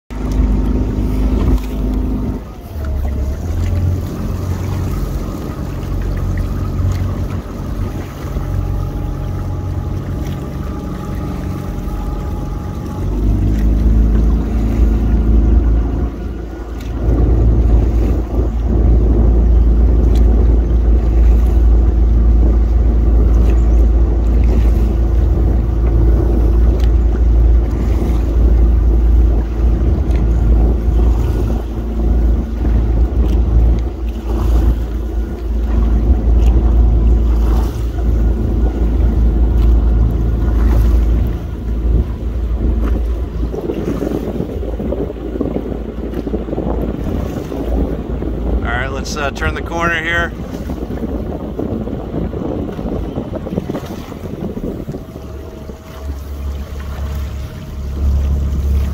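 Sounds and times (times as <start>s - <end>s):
motorboat engine running: 0.0s - 58.9s
wind rumble on microphone: 0.1s - 58.9s.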